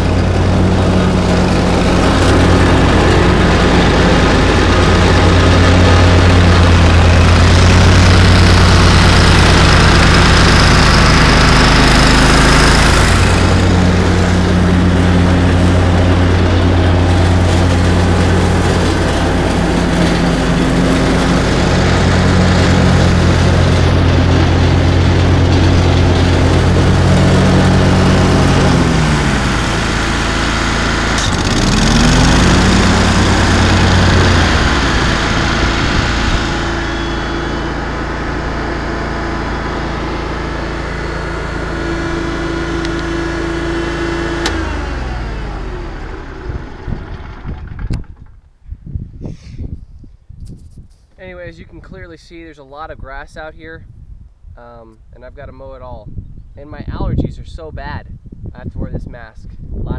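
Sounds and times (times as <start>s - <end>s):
lawnmower engine running: 0.0s - 48.6s.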